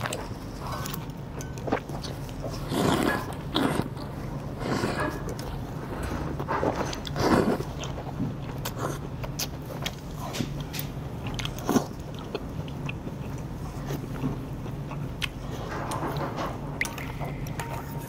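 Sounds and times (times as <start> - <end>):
noodles chewed and slurped: 0.0 - 16.1.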